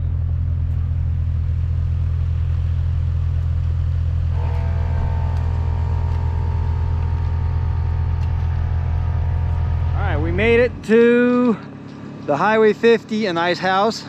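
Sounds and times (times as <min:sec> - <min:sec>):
higher hum: 0:00.0 - 0:12.8
engine and road drone in cab: 0:00.0 - 0:14.0.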